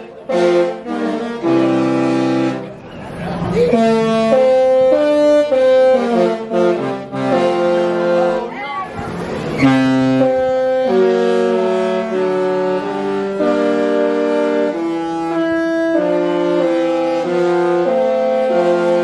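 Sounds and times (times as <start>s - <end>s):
musical ship horn chords: 0.0s - 8.6s, 9.4s - 19.0s.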